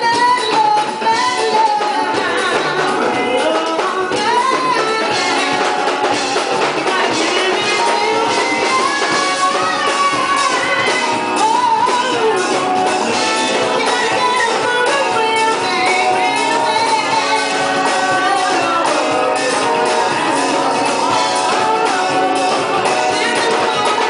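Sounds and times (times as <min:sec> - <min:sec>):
singers: 0:00.0 - 0:24.0
soul band playing: 0:00.0 - 0:24.0.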